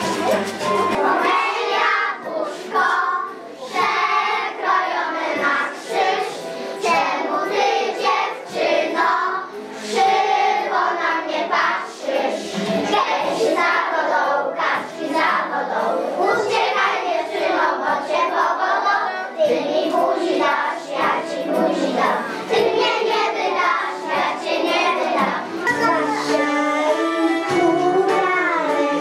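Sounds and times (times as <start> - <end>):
recorded instrumental tune: 0.0 - 17.2, 18.4 - 29.0
children singing together: 0.0 - 29.0.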